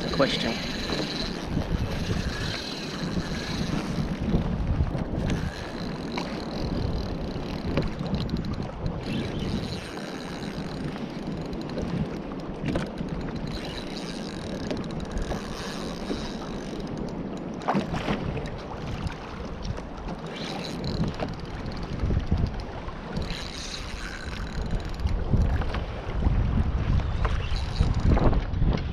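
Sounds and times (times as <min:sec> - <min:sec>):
water sloshing around kayak: 0:00.0 - 0:28.9
wind buffeting microphone: 0:00.0 - 0:28.9.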